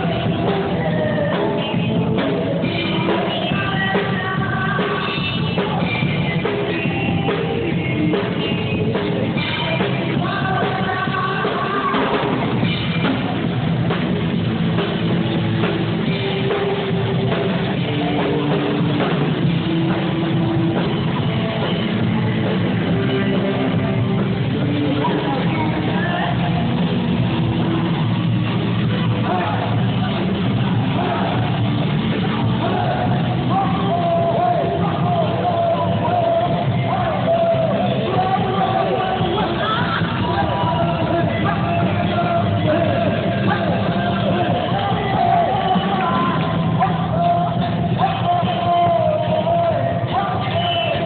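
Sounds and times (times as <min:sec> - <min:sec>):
person singing: 0:00.0 - 0:14.0, 0:15.6 - 0:28.1, 0:29.0 - 0:51.0
live rock band: 0:00.0 - 0:51.0.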